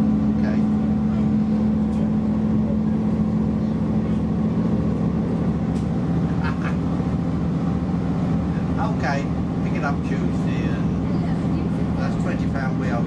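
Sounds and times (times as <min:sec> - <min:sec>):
diesel engine drone: 0:00.0 - 0:13.0
wheels rumbling on track: 0:00.0 - 0:13.0.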